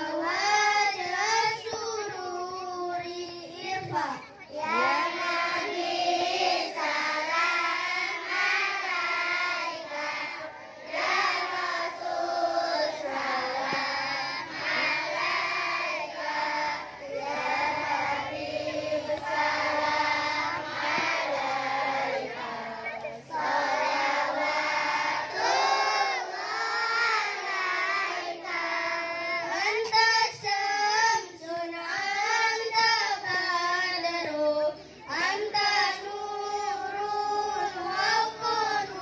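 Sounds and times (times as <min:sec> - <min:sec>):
children singing devotional song: 0:00.0 - 0:39.0.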